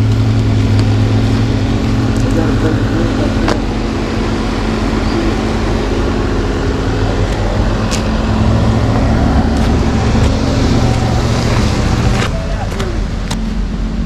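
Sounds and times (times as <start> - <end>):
truck engine rumbling under load: 0.0 - 14.0.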